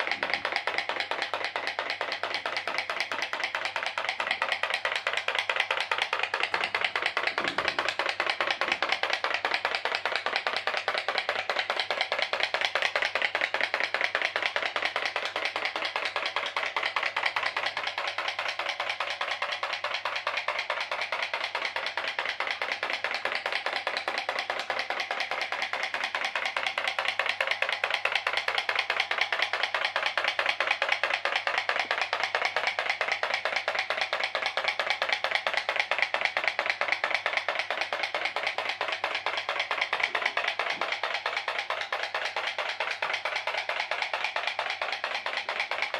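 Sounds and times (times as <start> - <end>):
pop pop boat boiler popping: 0.0 - 45.9.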